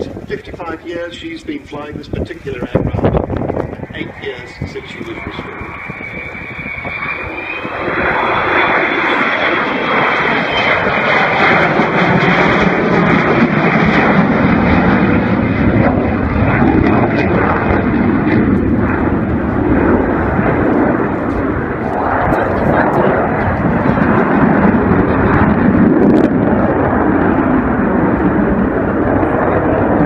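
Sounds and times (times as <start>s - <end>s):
jet aircraft flying past: 0.0s - 30.0s.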